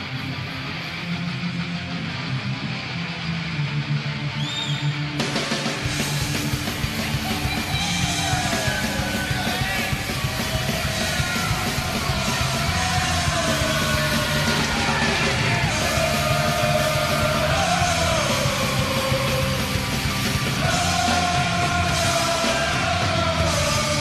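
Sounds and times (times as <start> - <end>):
rock song with shouted vocals: 0.0 - 24.0.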